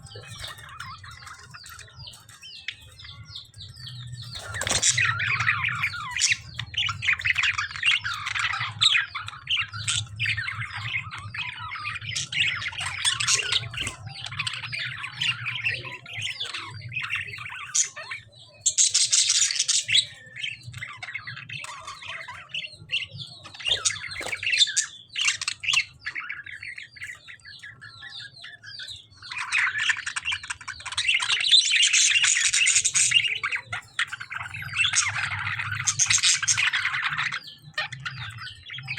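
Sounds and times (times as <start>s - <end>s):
birds chirping and chattering: 0.0s - 38.9s.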